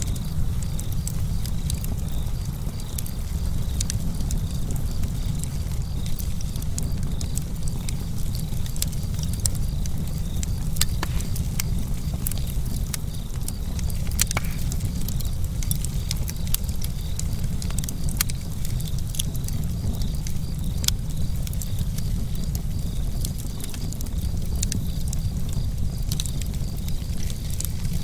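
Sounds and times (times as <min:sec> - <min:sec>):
campfire wood crackling: 0:00.0 - 0:28.0.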